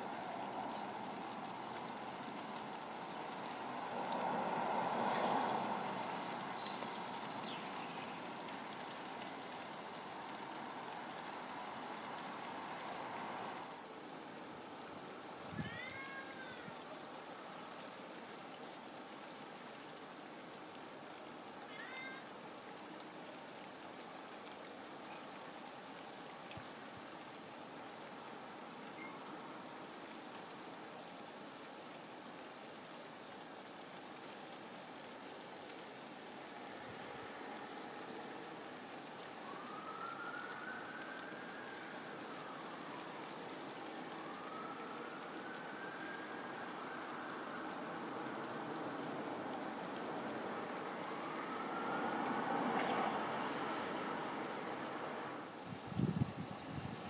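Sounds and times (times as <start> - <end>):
rain falling on a garden: 0.0 - 57.0.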